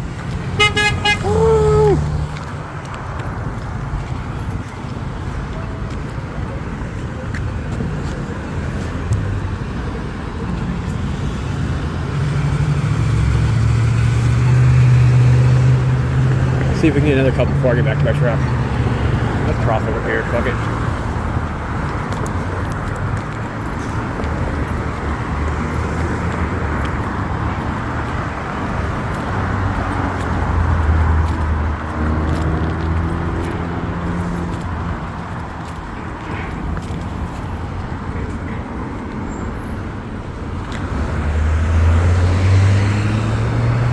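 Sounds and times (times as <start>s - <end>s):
cars going by: 0.0s - 43.9s
vehicle engine humming: 0.0s - 43.9s.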